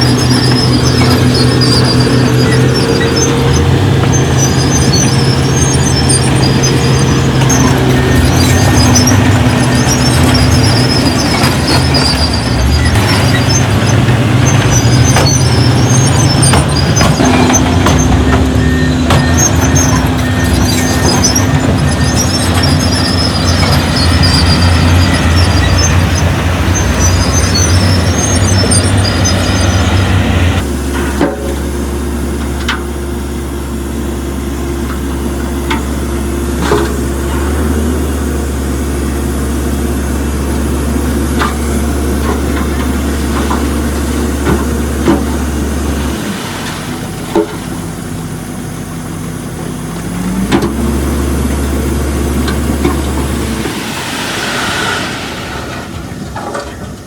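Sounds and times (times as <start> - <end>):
heavy diesel machinery engine hum: 0.0 - 57.0.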